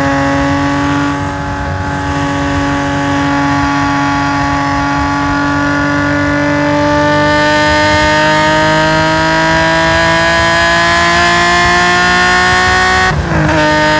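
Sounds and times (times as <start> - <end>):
race car engine revving hard: 0.0 - 13.9.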